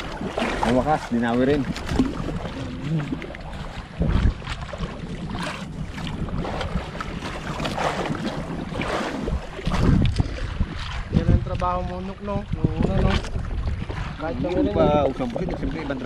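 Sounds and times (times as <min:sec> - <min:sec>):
water lapping against boat: 0:00.0 - 0:16.0
wind buffeting microphone: 0:00.0 - 0:16.0.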